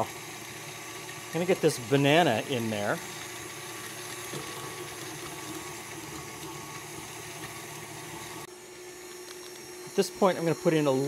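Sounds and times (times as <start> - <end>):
stand mixer motor whirring: 0.0 - 11.0.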